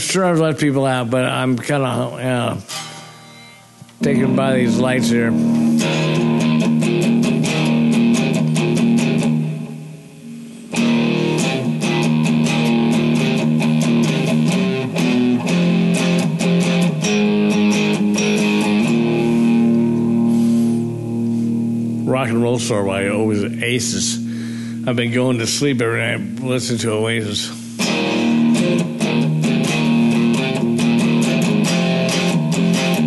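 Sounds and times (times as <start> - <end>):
electric guitar and bass music: 4.0 - 33.0.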